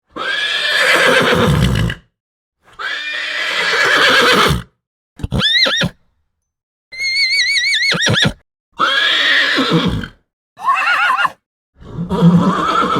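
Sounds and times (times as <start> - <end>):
horse whinnying: 0.2 - 2.0, 2.8 - 6.0, 6.9 - 12.9.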